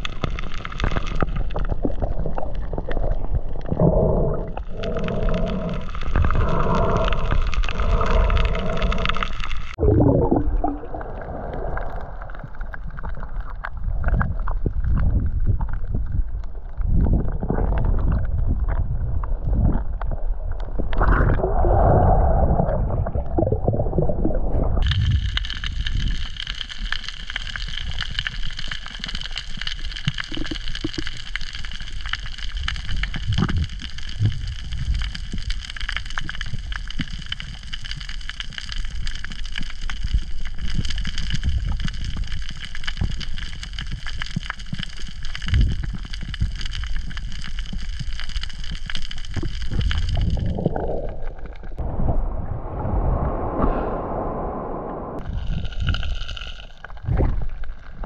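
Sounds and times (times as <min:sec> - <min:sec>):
underwater rushing and bubbling: 0:00.0 - 0:58.0.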